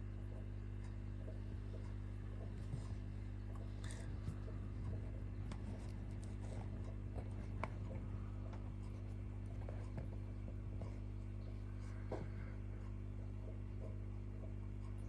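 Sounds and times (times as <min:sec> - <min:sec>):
low hum: 0:00.0 - 0:15.0
faint ticks and scratches: 0:00.2 - 0:15.0.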